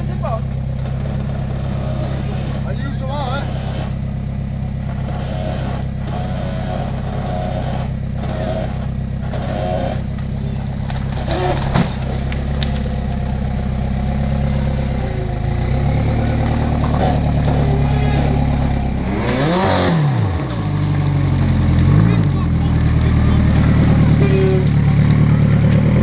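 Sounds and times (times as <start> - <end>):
buggy engine running at low revs: 0.0 - 26.0.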